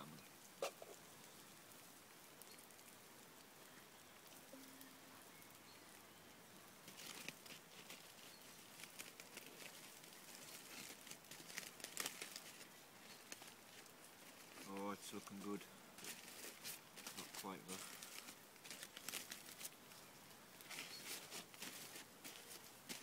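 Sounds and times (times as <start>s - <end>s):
campfire crackling and popping: 0.0s - 23.0s
low steady hiss: 0.0s - 23.0s.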